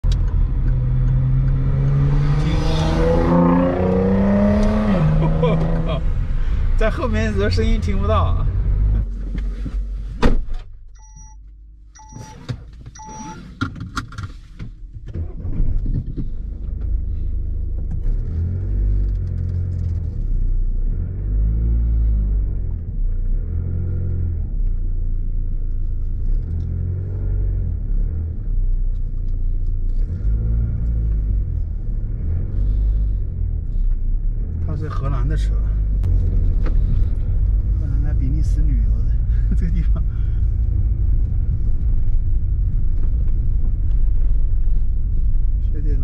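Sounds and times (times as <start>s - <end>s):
car cabin road rumble: 0.0s - 46.0s.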